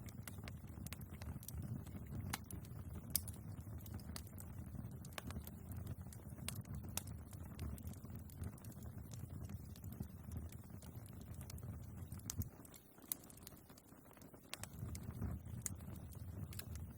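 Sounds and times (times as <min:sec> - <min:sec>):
logs crackling and popping: 0:00.0 - 0:16.9
low rumble of flames: 0:00.0 - 0:16.9.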